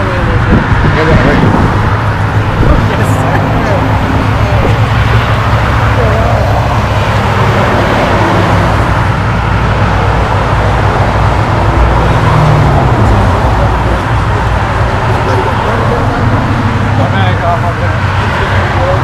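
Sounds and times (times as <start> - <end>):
car engine idling: 0.0 - 19.0
road traffic passing: 0.0 - 19.0.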